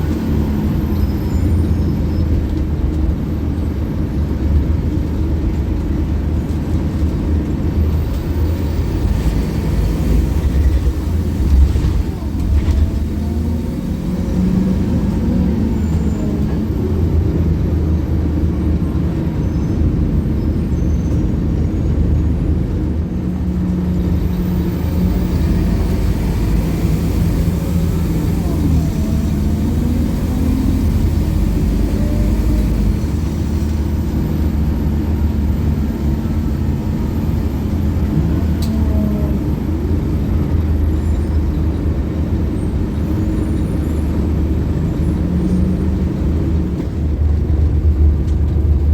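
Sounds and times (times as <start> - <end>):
bus diesel engine droning: 0.0 - 48.9
road noise: 0.0 - 48.9.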